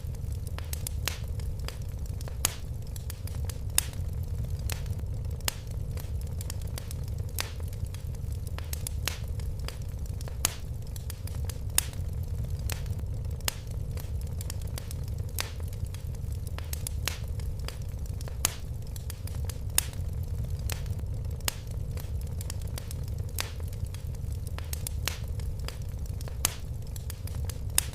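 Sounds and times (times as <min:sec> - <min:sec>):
fire crackling in fireplace: 0:00.0 - 0:27.9.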